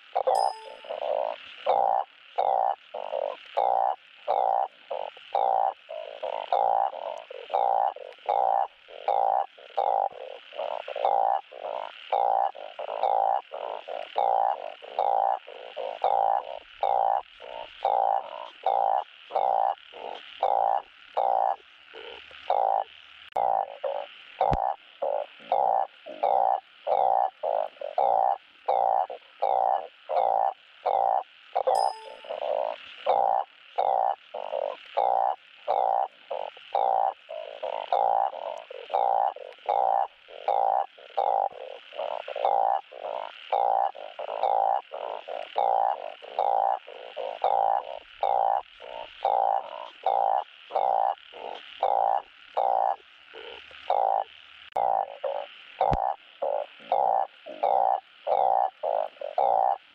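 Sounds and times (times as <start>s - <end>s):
frog croaking: 0.0s - 59.9s.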